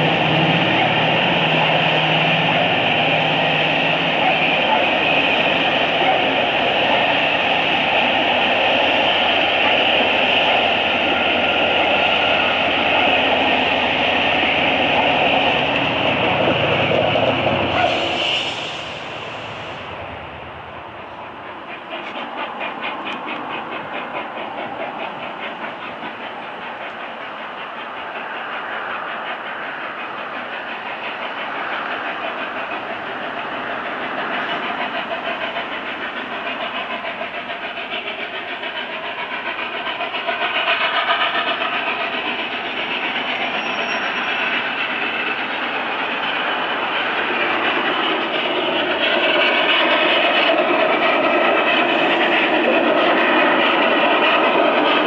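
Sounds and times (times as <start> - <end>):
steam locomotive exhaust beat: 0.0 - 55.0.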